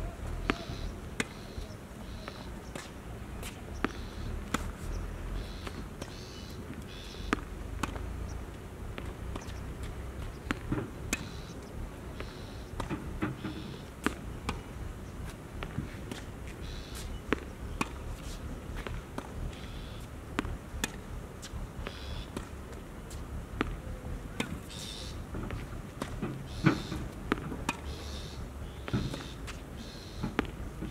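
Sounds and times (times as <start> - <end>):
tennis balls bouncing on court: 0.2 - 1.5, 2.1 - 4.8, 5.4 - 14.6, 15.2 - 19.7, 20.3 - 29.6, 30.2 - 30.9
tennis balls struck by rackets: 0.3 - 1.4, 2.1 - 4.8, 5.4 - 8.1, 8.8 - 14.6, 15.2 - 19.7, 20.3 - 23.8, 24.4 - 29.6, 30.2 - 30.9.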